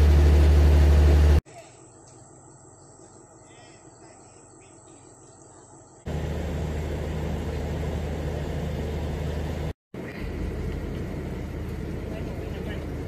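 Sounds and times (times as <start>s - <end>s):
engine idling with low hum: 0.0s - 13.0s.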